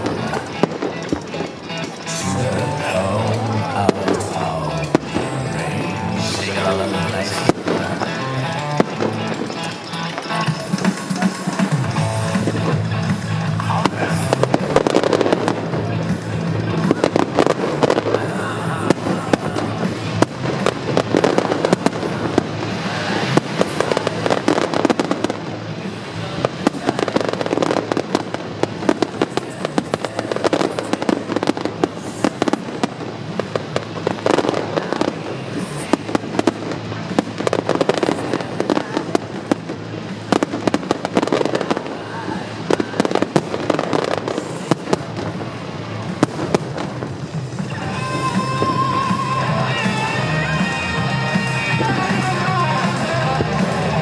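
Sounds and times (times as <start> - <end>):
fireworks bangs and crackling: 0.0 - 54.0
music playing: 0.0 - 54.0.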